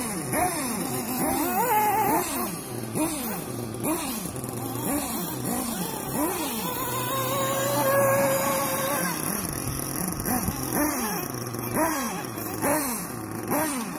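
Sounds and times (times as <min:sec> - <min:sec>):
toy truck motors whining: 0:00.0 - 0:13.9.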